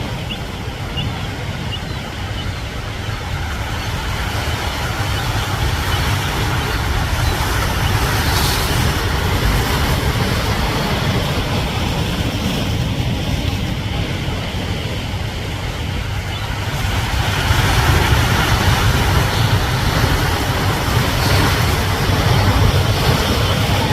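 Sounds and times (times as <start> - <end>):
waves washing against rocks: 0.0 - 23.9
wind buffeting microphone: 0.0 - 23.9.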